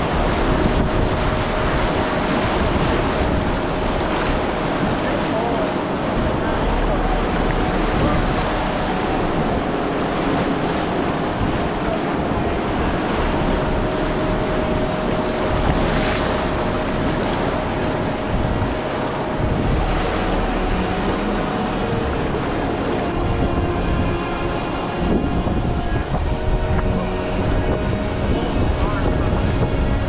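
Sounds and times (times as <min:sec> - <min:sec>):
rapids roaring: 0:00.0 - 0:30.0
wind rumbling on microphone: 0:00.0 - 0:30.0.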